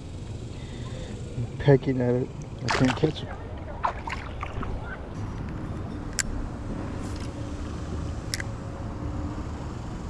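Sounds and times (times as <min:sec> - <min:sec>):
faint steady hum: 0:00.0 - 0:10.0
low outdoor rumble: 0:00.0 - 0:10.0.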